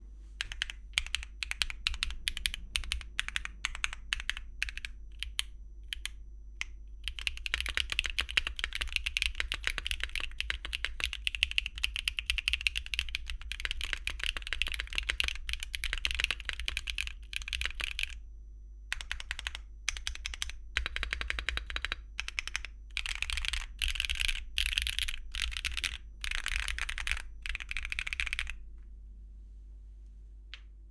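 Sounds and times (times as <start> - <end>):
mechanical keyboard typing: 0.4 - 18.2, 18.9 - 28.6.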